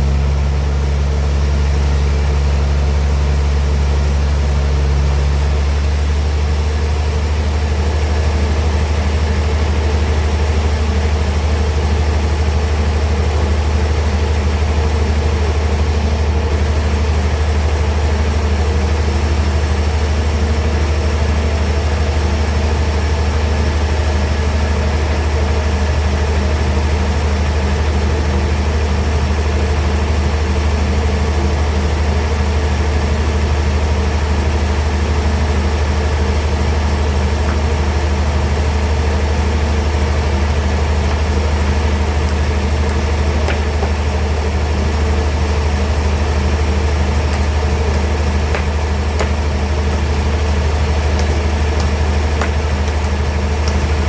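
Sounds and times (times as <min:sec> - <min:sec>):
sawmill machinery humming: 0:00.0 - 0:28.0, 0:28.8 - 0:54.0.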